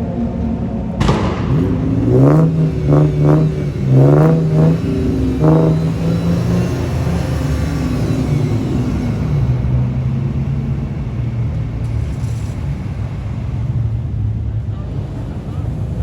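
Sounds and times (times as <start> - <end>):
car engine revving blips: 0.0 - 16.0
car engine idling: 0.7 - 16.0.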